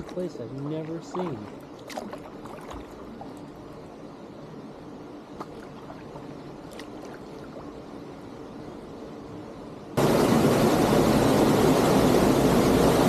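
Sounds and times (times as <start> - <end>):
water hissing around kayak: 0.0 - 13.0.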